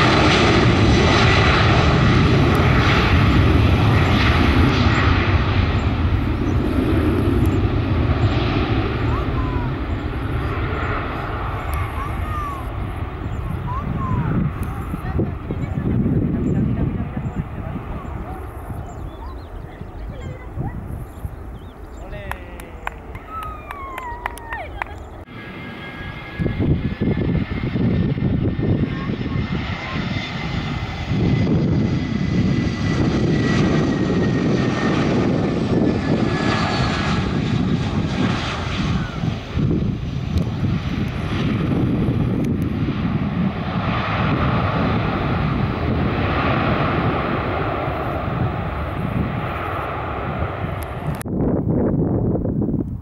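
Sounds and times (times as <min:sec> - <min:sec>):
jet engines at takeoff thrust: 0:00.0 - 0:53.0.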